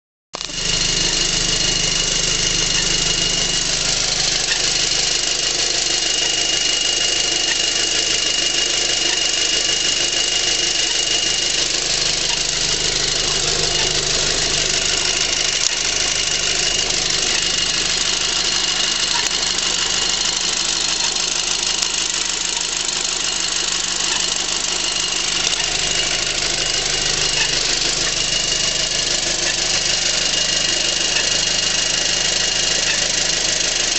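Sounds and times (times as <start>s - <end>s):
car engine running: 0.4s - 33.9s
engine chirping: 0.4s - 33.9s
steady high-pitched tone: 0.4s - 33.9s.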